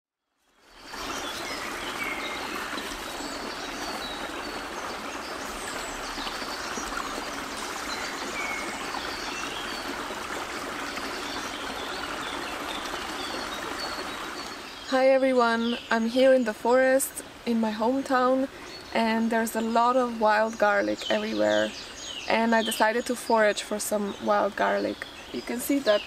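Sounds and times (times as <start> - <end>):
stream running: 0.4 - 26.0
birds chirping: 0.6 - 26.0.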